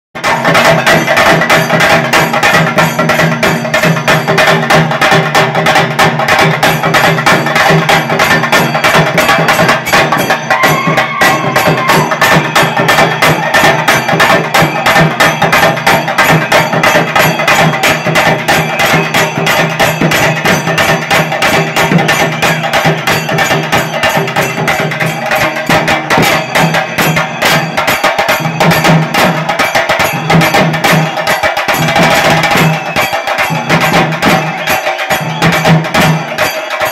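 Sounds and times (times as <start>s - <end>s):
barrel drums beating fast rhythm: 0.2s - 36.9s.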